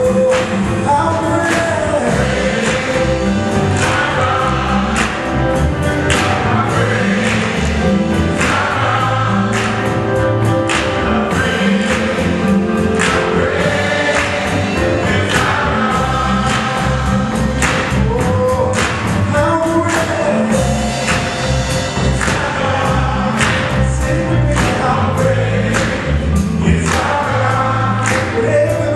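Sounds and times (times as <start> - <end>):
bass and drums beat: 0.0 - 28.9
gospel choir singing: 0.0 - 28.9.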